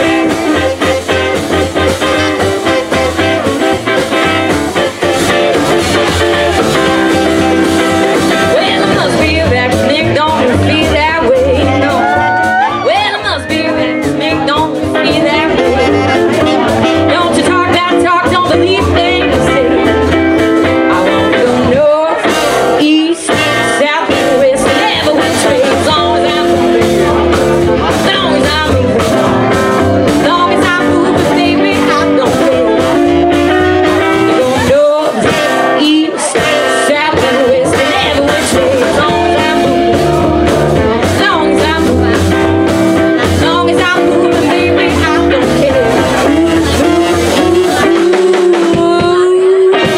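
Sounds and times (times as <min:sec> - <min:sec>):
saxophone: 0:00.0 - 0:21.8, 0:24.0 - 0:49.9
live band playing: 0:00.0 - 0:49.9
woman singing: 0:05.9 - 0:49.9.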